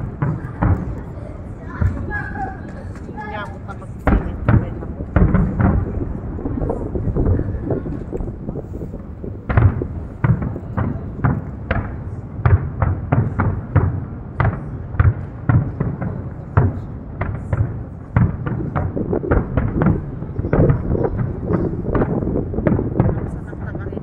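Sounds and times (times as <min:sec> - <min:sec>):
continuous rumble: 0:00.0 - 0:24.0
fireworks bangs: 0:00.0 - 0:24.0.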